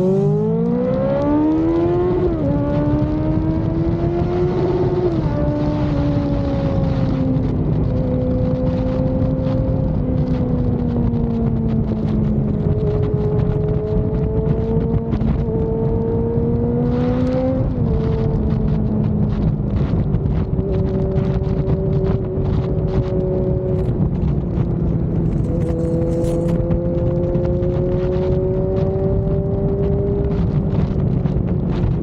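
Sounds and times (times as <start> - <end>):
motorcycle engine accelerating: 0.0 - 32.0
wind rush: 0.0 - 32.0.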